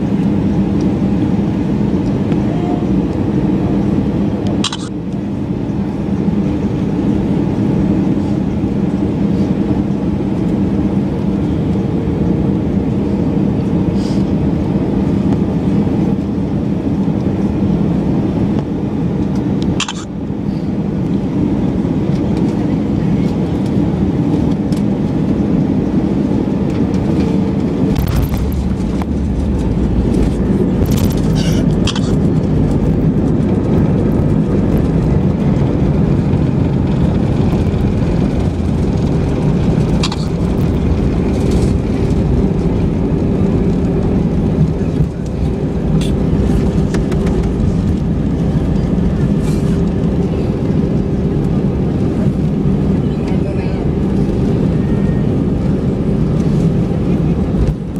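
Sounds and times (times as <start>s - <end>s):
jet engines roaring: 0.0s - 57.9s
runway rumble: 0.0s - 57.9s.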